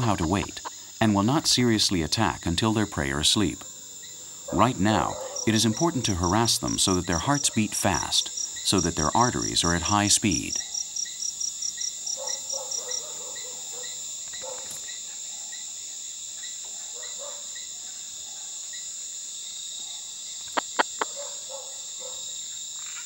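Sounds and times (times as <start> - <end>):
cricket chirping rapidly: 0.0 - 23.0
crickets and insects trilling: 0.0 - 23.0.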